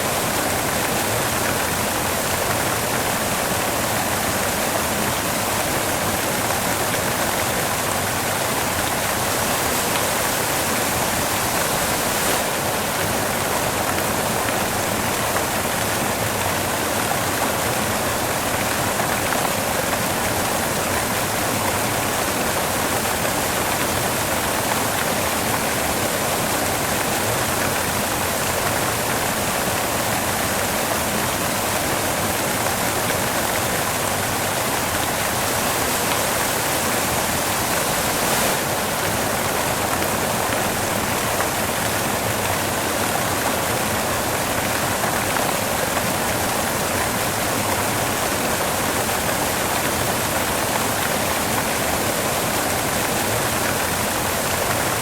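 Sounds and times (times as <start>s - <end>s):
steady white noise: 0.0s - 55.0s.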